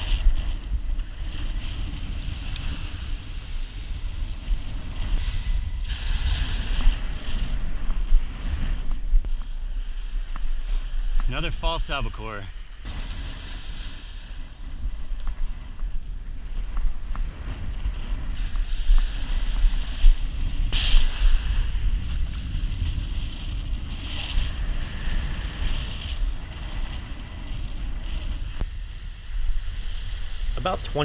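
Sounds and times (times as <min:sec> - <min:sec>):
hiss of surf: 0:00.0 - 0:31.0
wind buffeting microphone: 0:00.0 - 0:31.0.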